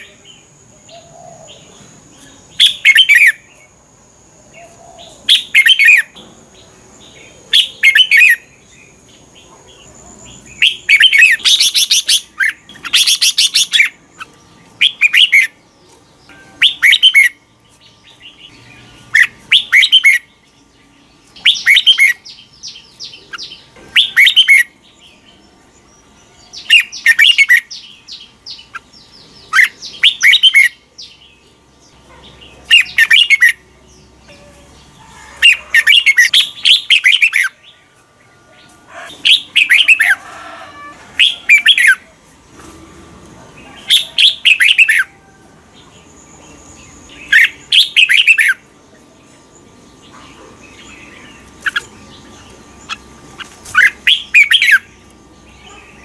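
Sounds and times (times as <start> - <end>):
bird singing warbled phrases: 0.0 - 37.9, 38.9 - 40.2, 41.1 - 42.7, 43.4 - 56.0.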